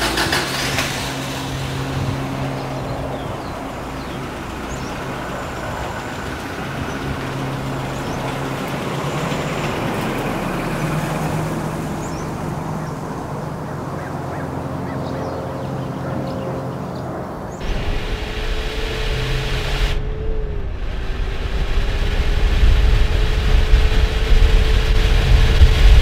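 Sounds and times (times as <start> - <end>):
truck engine running: 0.0 - 14.0, 17.6 - 26.0.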